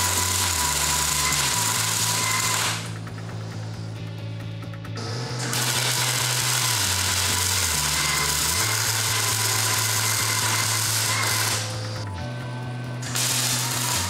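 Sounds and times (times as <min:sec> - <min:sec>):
welder arc crackling: 0:00.0 - 0:03.8, 0:04.9 - 0:12.0, 0:13.0 - 0:14.0
background music with bass line: 0:00.0 - 0:14.0.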